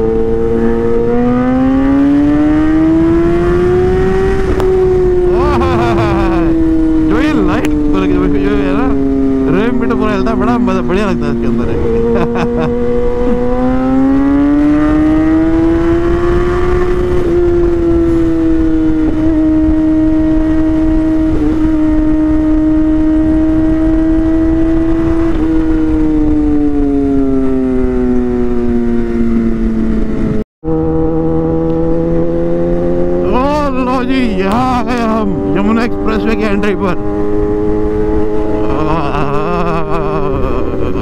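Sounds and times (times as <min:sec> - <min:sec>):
motorcycle engine running at speed: 0:00.0 - 0:41.0.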